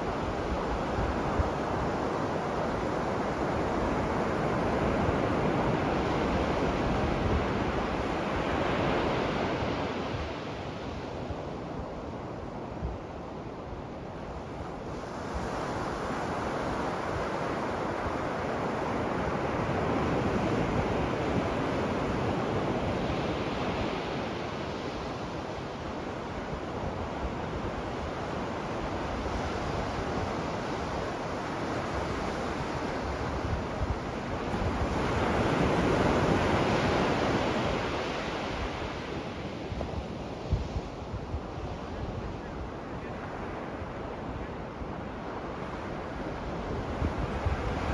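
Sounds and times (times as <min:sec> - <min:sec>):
surf breaking on a beach: 0:00.0 - 0:47.9.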